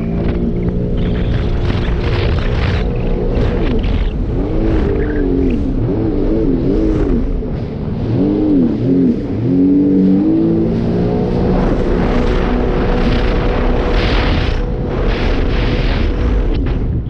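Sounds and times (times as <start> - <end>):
jet ski engine running hard: 0.0 - 16.8
wind rumble on microphone: 0.0 - 17.0.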